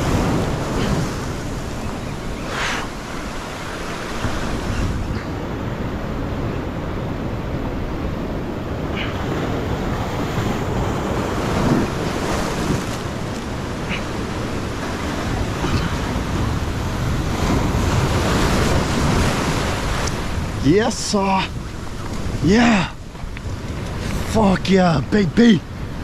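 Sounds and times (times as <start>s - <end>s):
ocean surf breaking on rocks: 0.0s - 26.0s.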